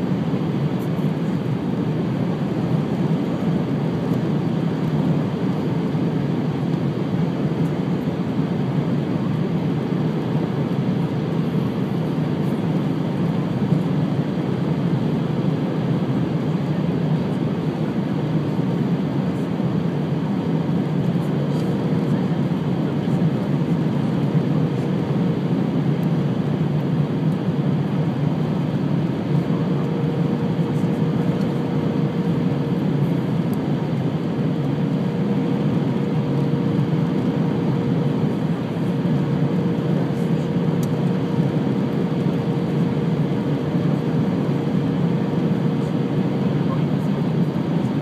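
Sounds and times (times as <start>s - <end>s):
jet engines and airflow rushing: 0.0s - 48.0s.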